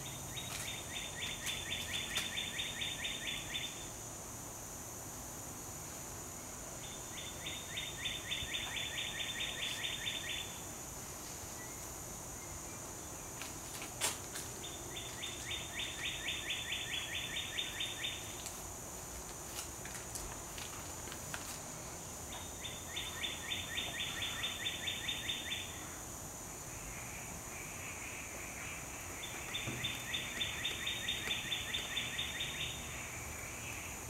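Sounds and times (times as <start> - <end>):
steady high hum: 0.0 - 34.0.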